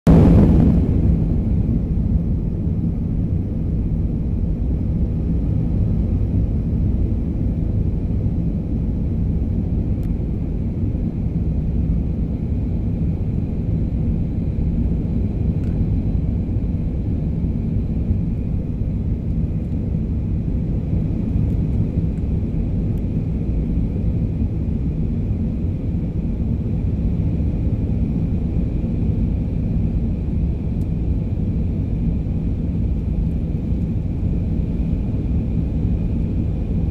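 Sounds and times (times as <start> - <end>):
low rumble of engines and airflow: 0.1 - 36.9.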